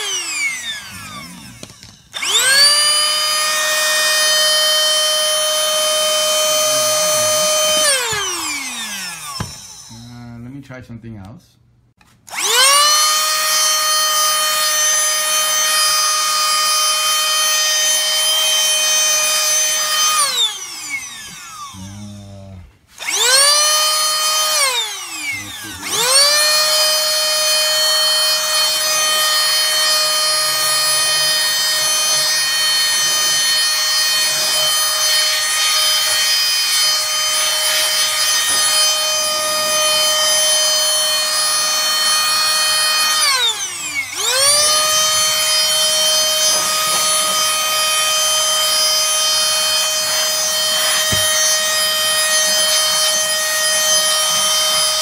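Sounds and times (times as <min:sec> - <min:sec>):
electric duster fan whine: 0:00.0 - 0:10.4, 0:12.3 - 0:55.0.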